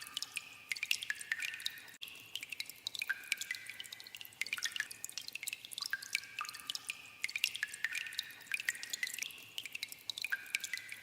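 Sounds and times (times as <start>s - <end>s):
water dripping in a cave: 0.0s - 11.0s.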